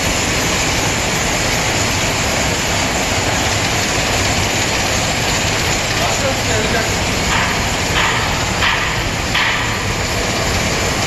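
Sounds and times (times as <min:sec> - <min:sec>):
low machine hum: 0:00.0 - 0:11.0
yarn winding machine whirring: 0:00.0 - 0:11.0.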